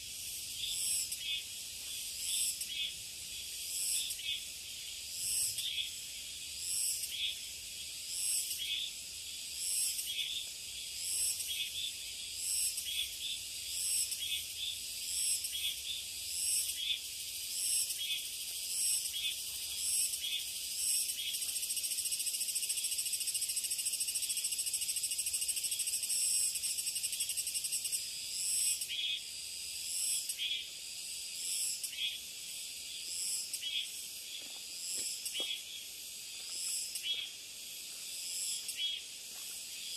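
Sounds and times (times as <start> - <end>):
cicada buzzing: 0.0 - 39.9.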